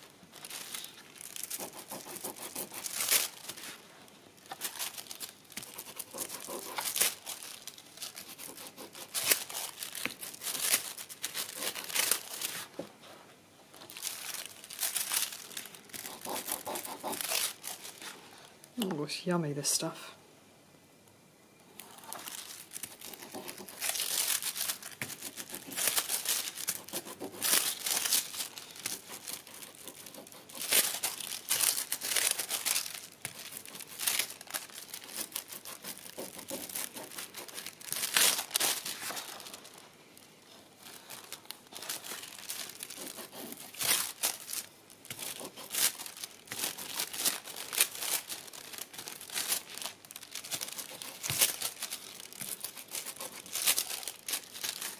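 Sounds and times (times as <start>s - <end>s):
foil crinkling and crackling: 0.0s - 12.8s, 13.7s - 18.6s, 21.8s - 54.9s.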